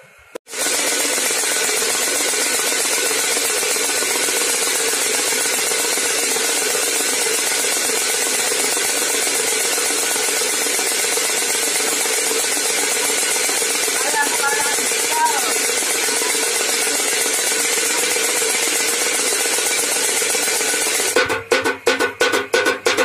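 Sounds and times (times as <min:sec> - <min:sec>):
wind rotor rattling tin can: 0:00.5 - 0:21.2.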